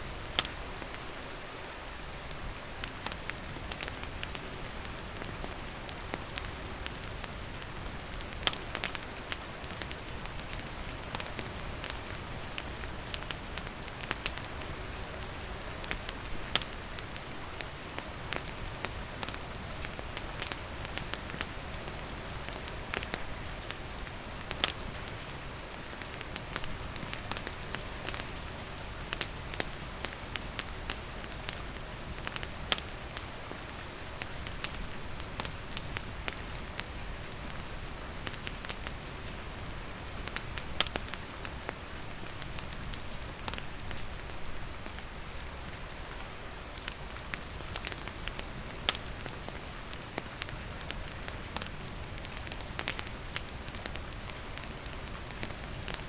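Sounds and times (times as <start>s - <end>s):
campfire crackling: 0.0s - 1.4s, 2.0s - 56.0s
steady rain falling: 0.0s - 56.0s.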